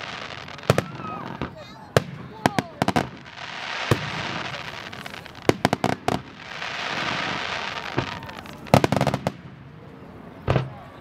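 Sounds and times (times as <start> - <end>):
firework crackling hiss: 0.0 - 9.5.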